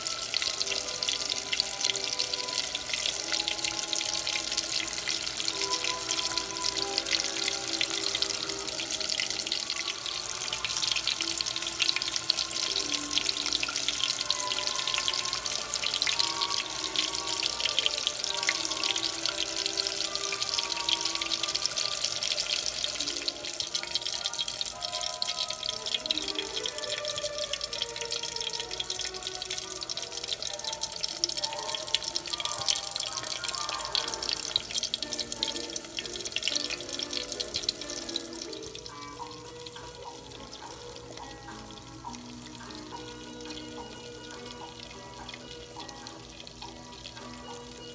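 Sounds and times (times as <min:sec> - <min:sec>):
shrimp sizzling in hot oil: 0:00.0 - 0:47.9
soft background music: 0:00.0 - 0:47.9.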